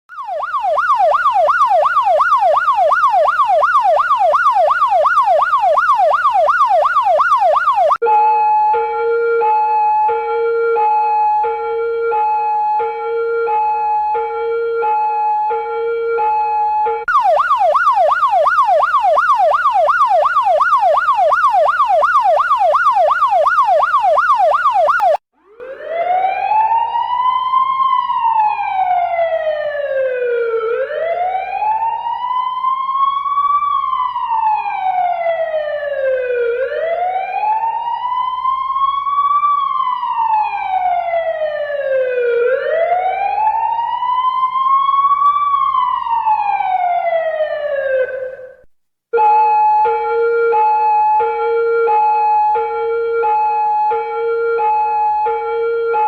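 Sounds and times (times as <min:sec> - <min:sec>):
police siren wailing: 0:00.1 - 0:56.0
police siren yelping: 0:00.1 - 0:56.0.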